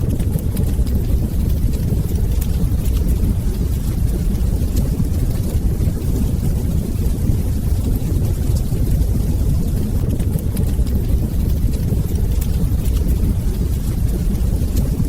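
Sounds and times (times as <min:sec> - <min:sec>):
fire crackles: 0:00.0 - 0:15.0
fire rumbling: 0:00.0 - 0:15.0.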